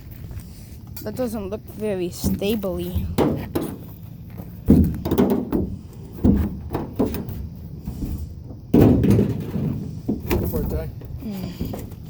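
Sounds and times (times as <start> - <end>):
heavy thumps and knocks on metal: 2.2 - 12.0.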